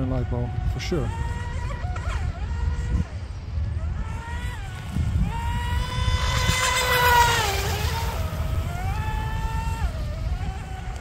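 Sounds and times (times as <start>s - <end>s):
model boat motor whining: 0.0s - 11.0s.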